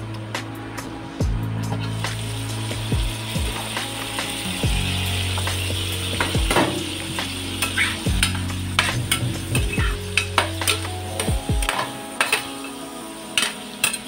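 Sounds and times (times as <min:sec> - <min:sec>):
steady low hum: 0:00.0 - 0:11.7
food sizzling in a frying pan: 0:01.9 - 0:14.0.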